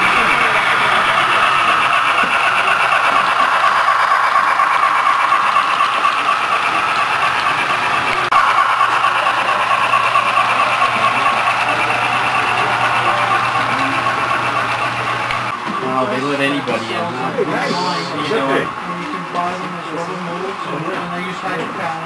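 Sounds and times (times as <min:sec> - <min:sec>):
model train cars rolling on track: 0:00.0 - 0:22.0.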